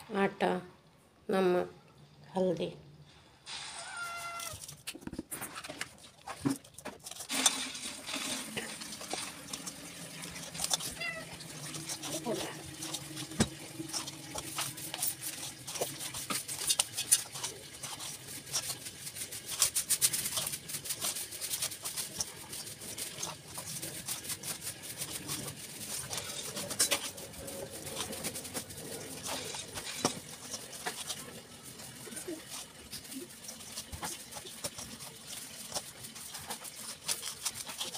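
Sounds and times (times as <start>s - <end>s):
hands squelching wet coating: 5.6s - 37.9s.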